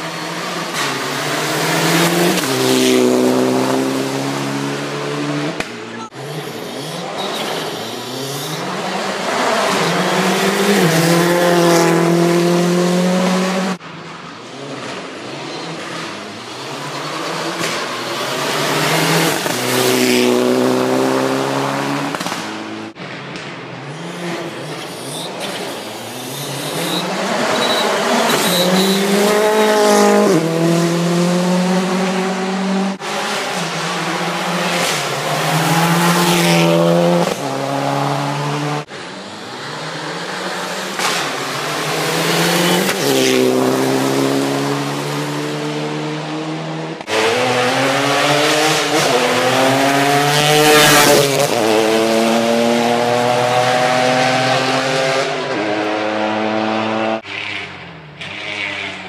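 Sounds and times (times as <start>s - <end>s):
rally car engines revving hard: 0.0s - 59.0s.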